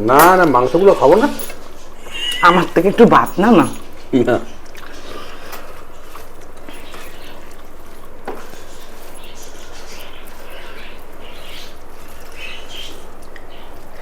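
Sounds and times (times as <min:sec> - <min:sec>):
chewing and wet mouth noises: 0:00.0 - 0:14.0.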